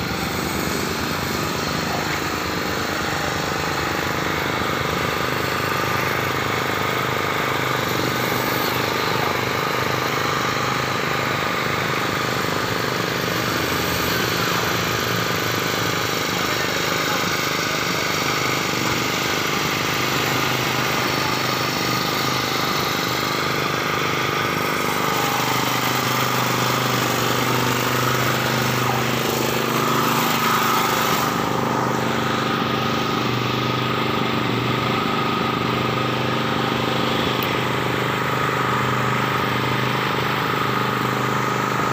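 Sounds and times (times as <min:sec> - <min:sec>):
high motor whine: 0:00.0 - 0:41.9
motor humming: 0:00.0 - 0:41.9.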